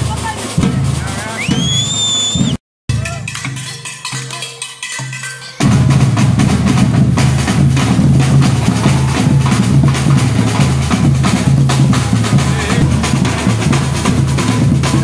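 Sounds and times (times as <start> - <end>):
music with drums and bass: 0.0 - 15.0.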